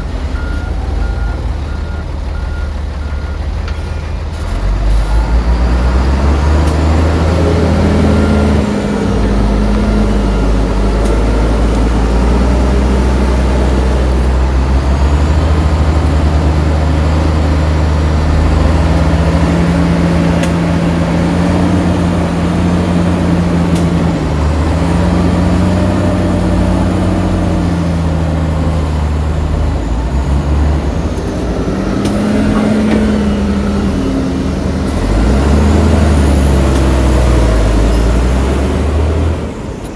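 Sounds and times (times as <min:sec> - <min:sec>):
heavy diesel engines working: 0:00.0 - 0:39.9.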